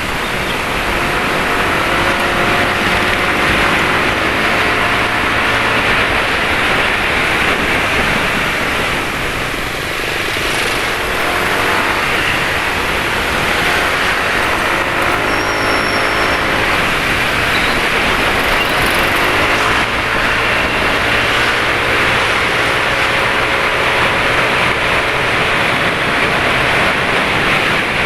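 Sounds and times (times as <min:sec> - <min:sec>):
motorcycle engines in traffic: 0:00.0 - 0:28.0
wind and road noise: 0:00.0 - 0:28.0.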